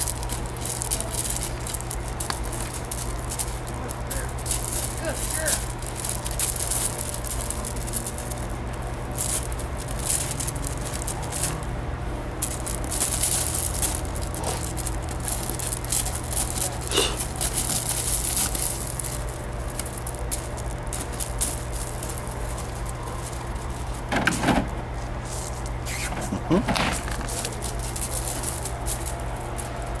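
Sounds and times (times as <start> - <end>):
feet shifting on gravel: 0.0 - 30.0
paws scrabbling on gravel: 0.0 - 30.0.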